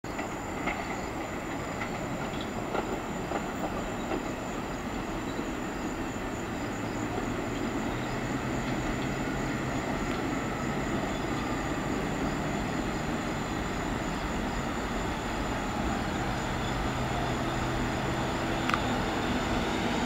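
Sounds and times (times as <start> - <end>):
subway train approaching: 0.0 - 20.0.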